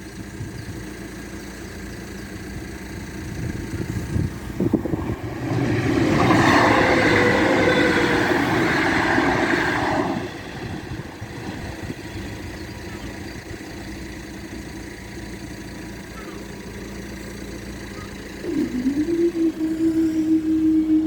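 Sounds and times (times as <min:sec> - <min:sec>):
road traffic rumble: 0:00.0 - 0:21.0
train passing: 0:03.0 - 0:21.0.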